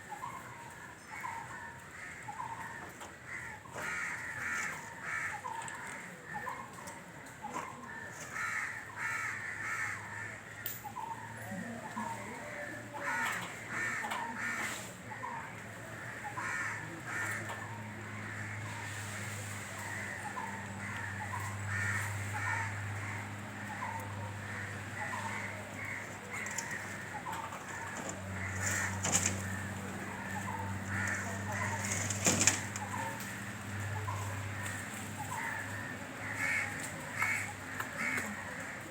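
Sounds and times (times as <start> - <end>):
crows cawing: 0.5 - 6.7, 7.5 - 11.3, 11.9 - 38.9.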